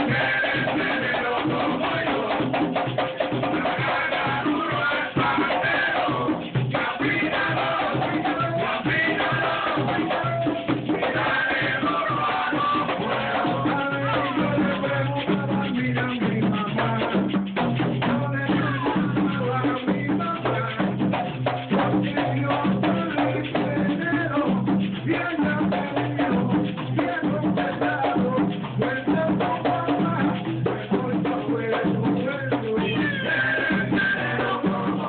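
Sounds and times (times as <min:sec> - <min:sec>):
frame drums beating: 0:00.0 - 0:35.0
voices singing: 0:00.0 - 0:35.0.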